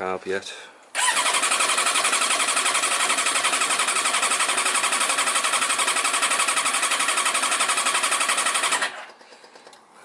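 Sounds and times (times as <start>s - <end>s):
motorcycle engine cranking: 1.0s - 9.8s.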